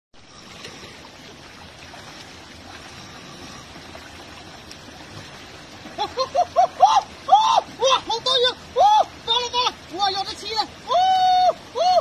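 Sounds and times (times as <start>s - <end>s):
stream water rushing: 0.2s - 12.0s.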